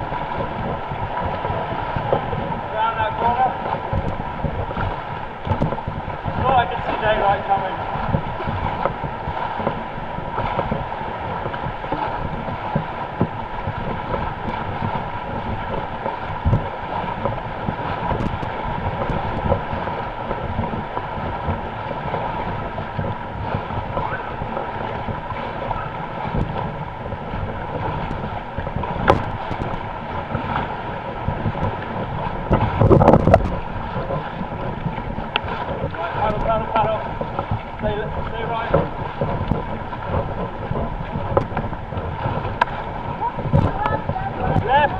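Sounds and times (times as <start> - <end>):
paddles in water: 0.0 - 44.9
water sloshing: 0.0 - 44.9
wind buffeting microphone: 0.0 - 44.9.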